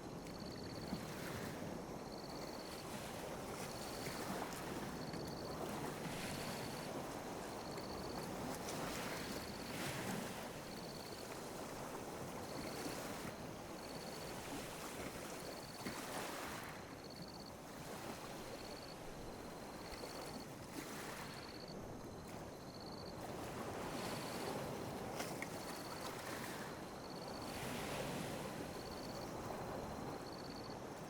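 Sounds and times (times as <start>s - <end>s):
waves washing on beach: 0.9s - 31.0s.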